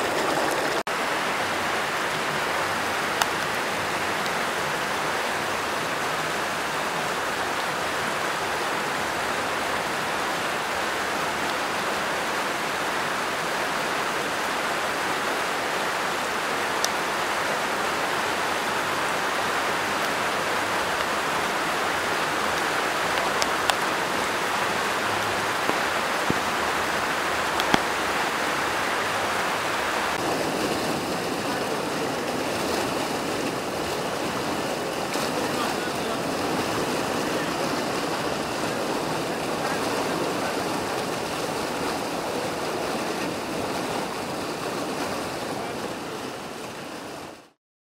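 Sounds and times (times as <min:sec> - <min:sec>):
river rushing: 0:00.0 - 0:47.6.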